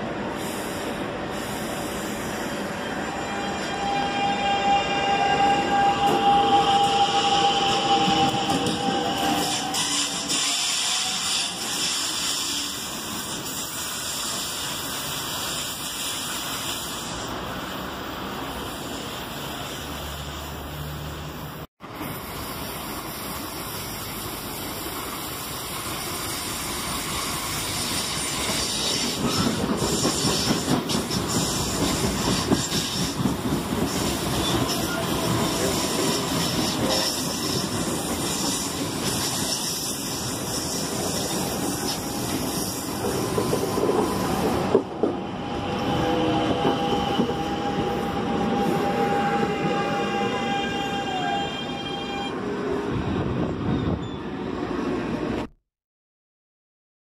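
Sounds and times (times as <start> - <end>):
train running past: 0.0 - 55.5.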